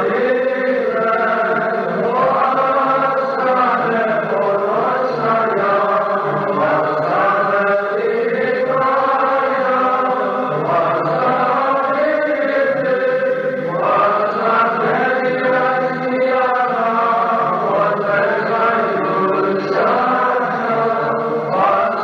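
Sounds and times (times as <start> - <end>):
choir chanting a hymn: 0.0 - 22.0.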